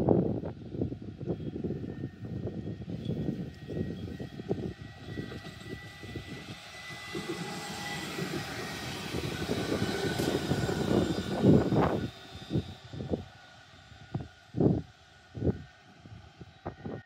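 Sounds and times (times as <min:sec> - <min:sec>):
tram high whine: 0:00.0 - 0:17.0
tram wheels rumbling on rails: 0:02.2 - 0:17.0.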